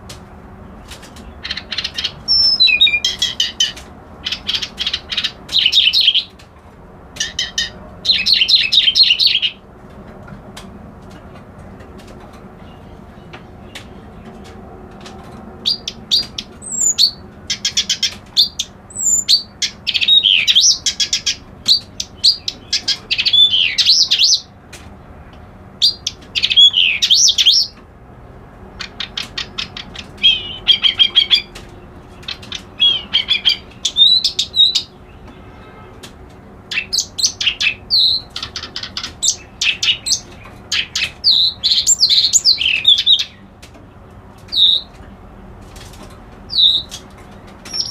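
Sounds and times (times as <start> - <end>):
songbird singing chattering rattles: 0.6 - 6.5, 7.1 - 9.6, 12.0 - 27.8, 28.6 - 35.3, 36.3 - 47.9.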